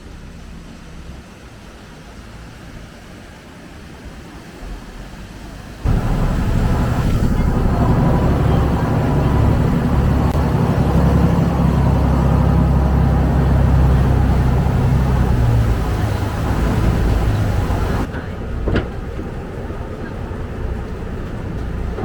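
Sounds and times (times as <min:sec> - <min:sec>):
boat engine low drone: 0:00.0 - 0:22.0.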